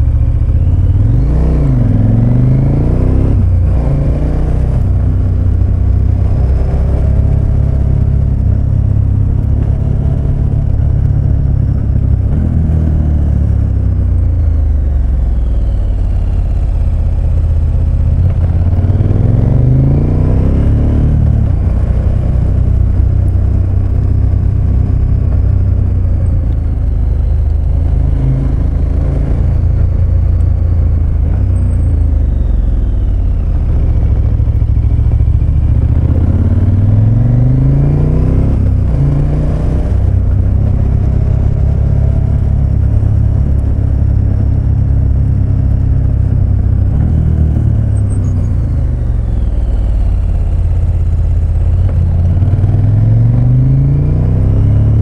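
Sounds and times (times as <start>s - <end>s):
motorcycle engine revving: 0.0s - 55.0s
wind rumble on microphone: 0.0s - 55.0s.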